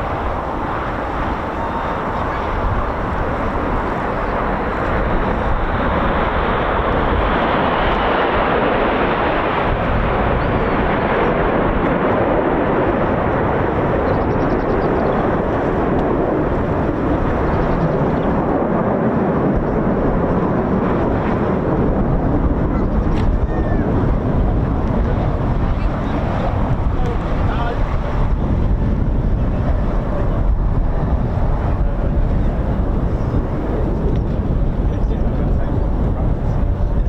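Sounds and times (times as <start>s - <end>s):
jet roar: 0.0s - 37.0s.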